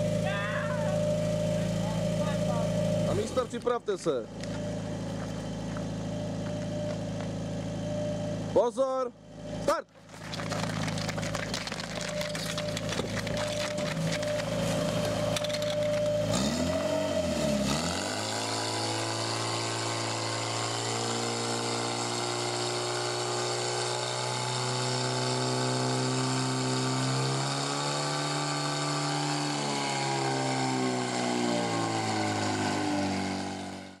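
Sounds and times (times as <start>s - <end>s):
fire pump engine running hard: 0.0s - 34.0s.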